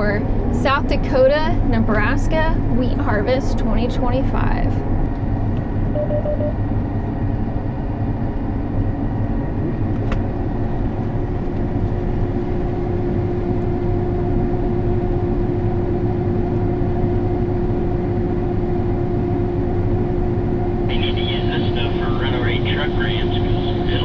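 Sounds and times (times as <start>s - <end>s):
machinery engine humming: 0.0s - 24.0s
steady whine: 0.0s - 24.0s.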